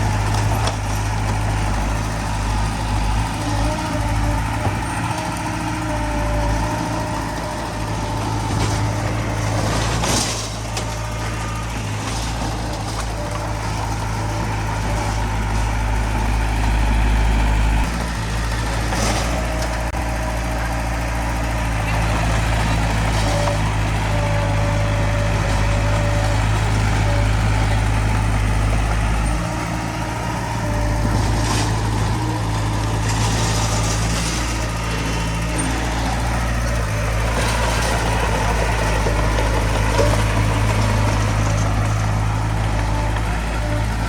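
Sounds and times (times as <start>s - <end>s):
heavy machinery diesel engine droning: 0.0s - 44.0s.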